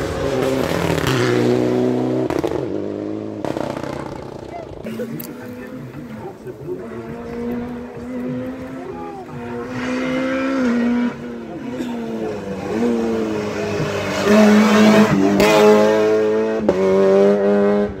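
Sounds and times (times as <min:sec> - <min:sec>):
rally car engine at full throttle: 0:00.0 - 0:18.0.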